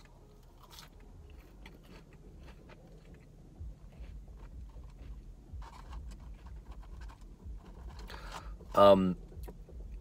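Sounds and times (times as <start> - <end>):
chewing fries: 0.0 - 8.3
low steady rumble: 0.0 - 10.0.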